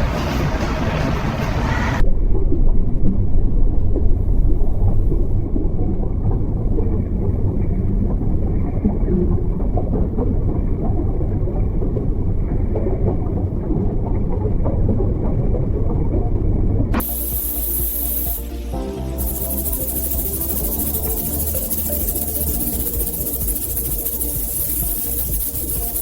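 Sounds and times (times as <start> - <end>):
muffled low rumble: 0.0 - 26.0.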